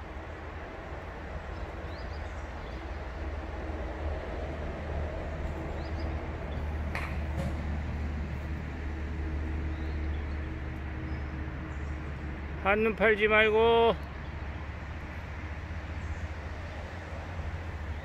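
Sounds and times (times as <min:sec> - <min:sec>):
distant road traffic rumble: 0:00.0 - 0:18.0
engine-like hum: 0:00.0 - 0:18.0.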